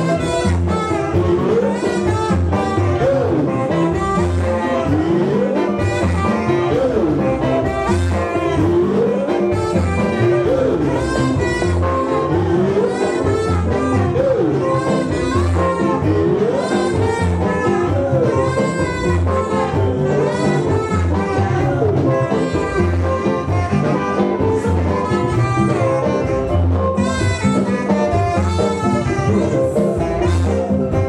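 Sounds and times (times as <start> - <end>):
band music with saxophone and guitar: 0.0 - 31.0.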